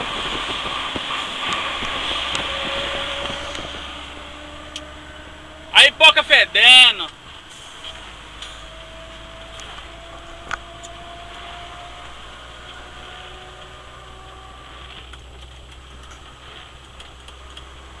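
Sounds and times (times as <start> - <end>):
faint whine: 0.0 - 17.6
truck engine hum: 0.0 - 18.0
tyres hissing on wet road: 0.0 - 18.0.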